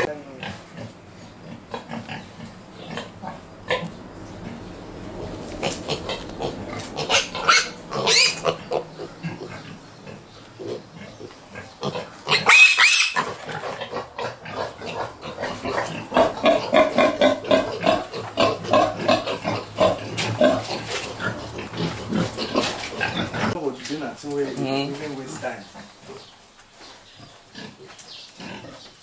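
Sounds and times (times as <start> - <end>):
pigs squealing: 0.0 - 23.6
pigs grunting: 0.0 - 23.7, 27.1 - 29.0.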